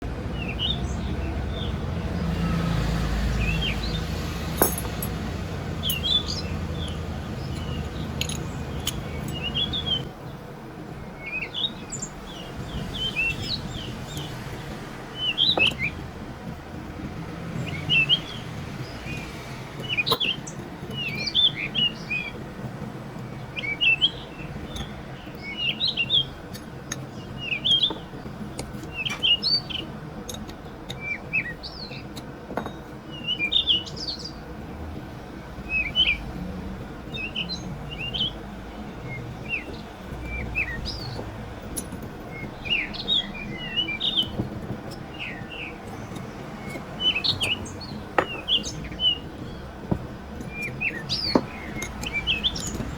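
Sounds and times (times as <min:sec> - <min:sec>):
small birds chirping: 0:00.1 - 0:52.9
low background hum: 0:03.2 - 0:52.9.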